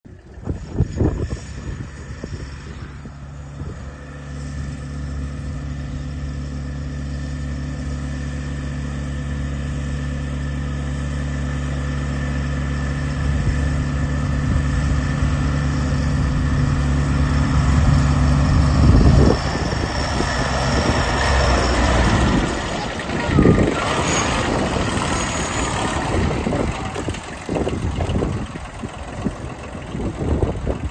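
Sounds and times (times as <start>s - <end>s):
tractor engine running: 0.1s - 30.9s.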